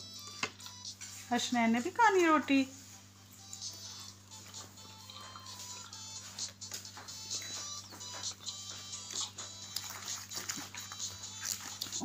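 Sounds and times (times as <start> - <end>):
faint background music: 0.0 - 12.0
steady low hum: 0.0 - 12.0.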